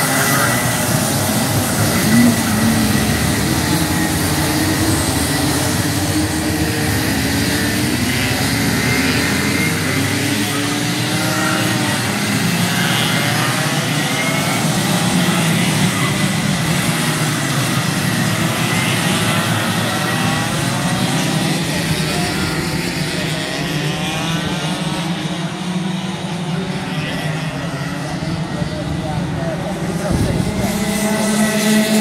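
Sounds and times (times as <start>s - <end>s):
kart engines revving past: 0.0s - 32.0s.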